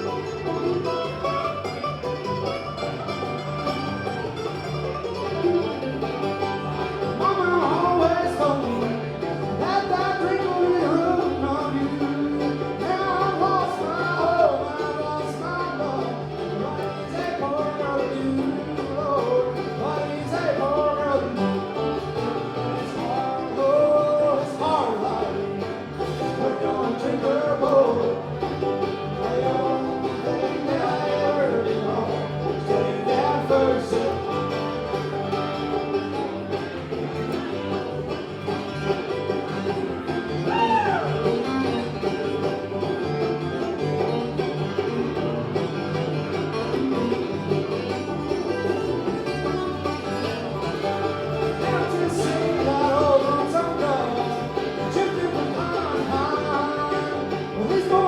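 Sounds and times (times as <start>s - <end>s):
banjo picking: 0.0s - 58.0s
guitar picking: 0.0s - 58.0s.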